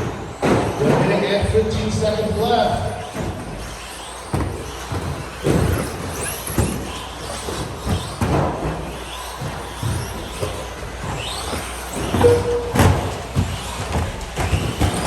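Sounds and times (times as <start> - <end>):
electric toy truck motors whining: 0.0 - 15.0
trucks thudding on track: 0.0 - 15.0.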